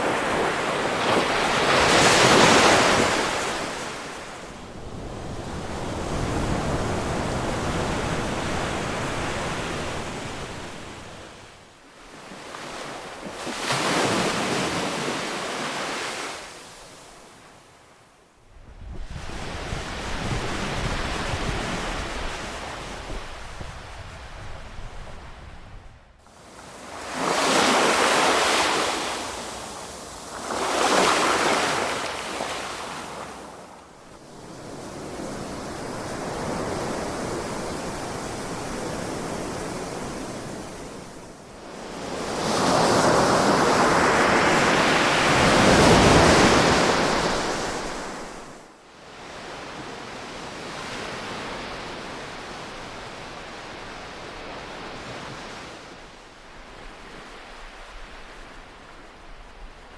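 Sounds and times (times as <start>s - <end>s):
ocean waves breaking on shore: 0.0s - 17.8s, 18.8s - 59.9s.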